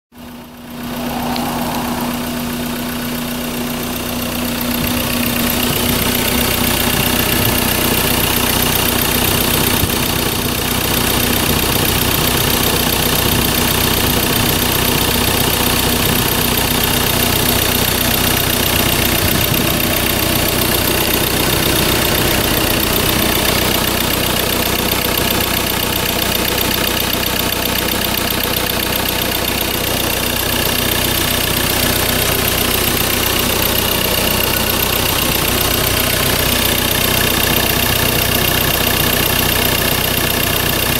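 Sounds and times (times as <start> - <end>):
diesel engine idling: 0.2 - 40.9.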